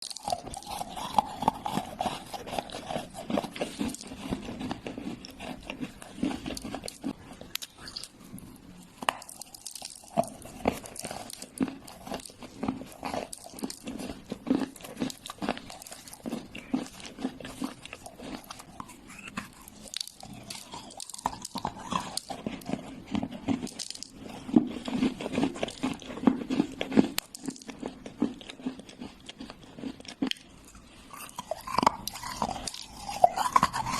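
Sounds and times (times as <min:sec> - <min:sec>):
clay crunching as chewed: 0:00.0 - 0:33.9.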